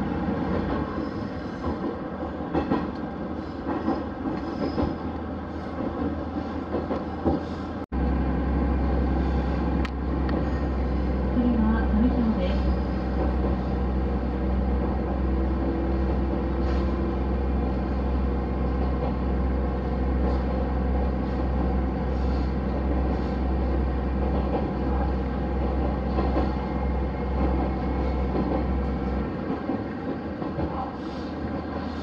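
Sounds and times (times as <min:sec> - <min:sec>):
train running: 0:00.0 - 0:32.0.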